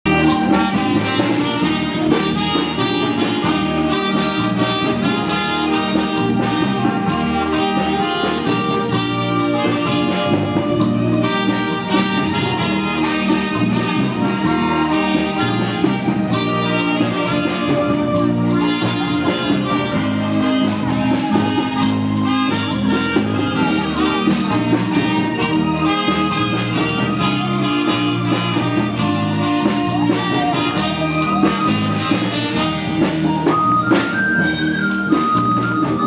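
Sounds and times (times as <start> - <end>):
instrumental music with steady beat: 0.1 - 36.0.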